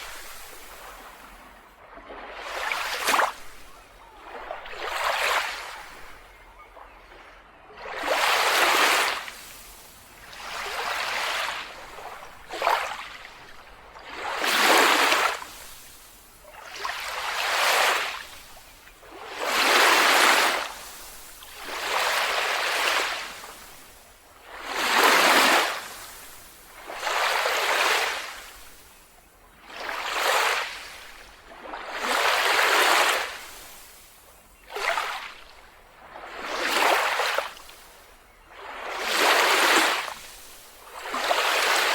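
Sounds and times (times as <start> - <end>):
small waves breaking on beach: 0.0 - 41.9.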